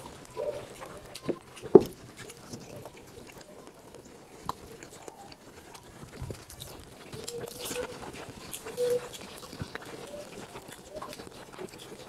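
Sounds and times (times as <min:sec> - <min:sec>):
person chewing and biting: 0:00.0 - 0:12.0
small wet clicks: 0:00.0 - 0:12.0.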